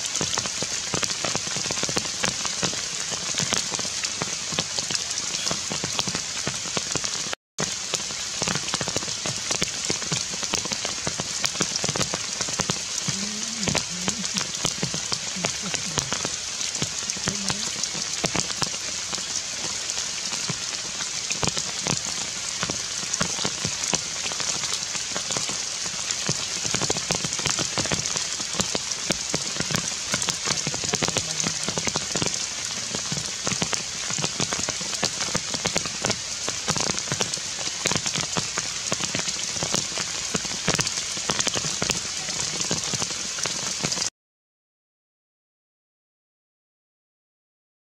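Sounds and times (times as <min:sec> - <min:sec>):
heavy rain on leaves: 0:00.0 - 0:44.1.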